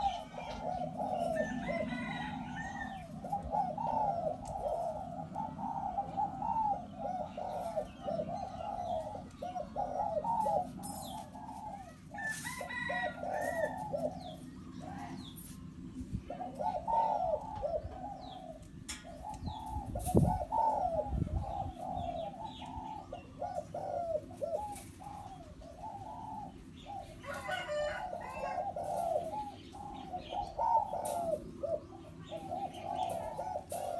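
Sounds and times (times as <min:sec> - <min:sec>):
dove cooing: 0:00.0 - 0:33.9
small birds chirping: 0:00.0 - 0:33.9.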